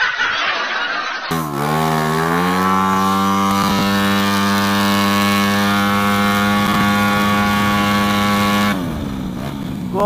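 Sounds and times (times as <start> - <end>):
scooter engine at high revs: 1.3 - 10.0.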